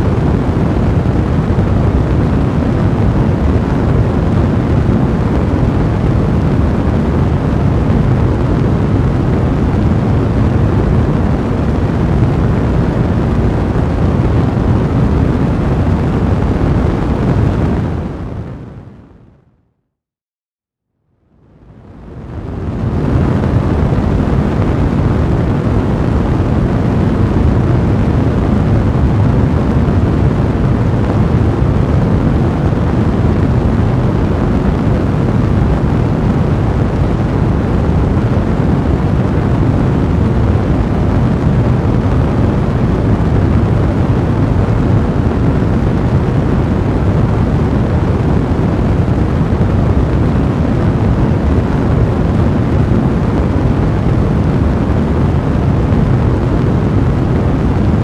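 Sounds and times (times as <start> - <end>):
fire rumbling in a fireplace: 0.0 - 19.2, 21.4 - 58.0.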